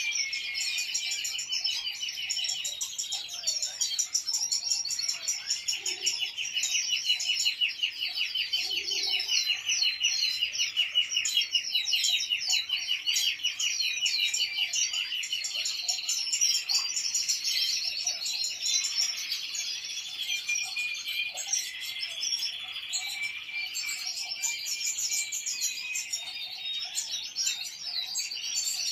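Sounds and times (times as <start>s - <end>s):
birds twittering and trilling: 0.0s - 28.9s.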